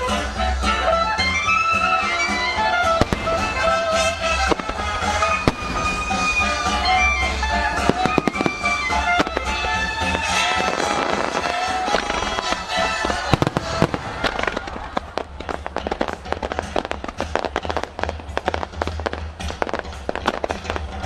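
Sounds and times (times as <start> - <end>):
fireworks bursts and crackles: 0.0 - 21.0
music with held tones: 0.0 - 21.0
big fireworks bang: 1.4 - 21.0.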